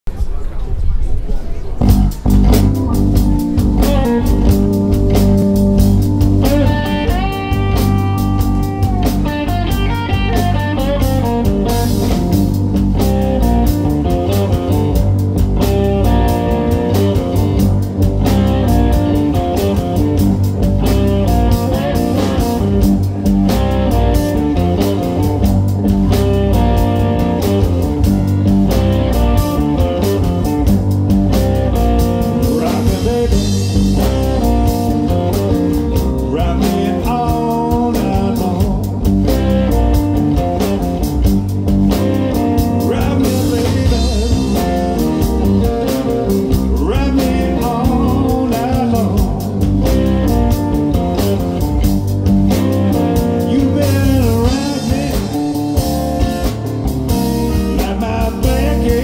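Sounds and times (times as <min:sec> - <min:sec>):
keyboards: 0:00.1 - 0:59.0
bass guitar: 0:00.3 - 0:59.0
drum kit: 0:01.8 - 0:59.0
electric guitar lead: 0:01.8 - 0:59.0.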